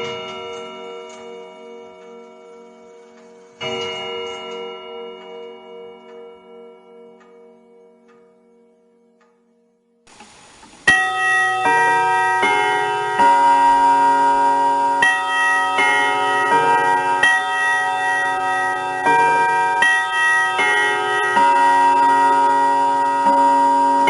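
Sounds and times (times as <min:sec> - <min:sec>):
grandfather clock chime melody: 0:00.0 - 0:10.0, 0:10.8 - 0:24.0.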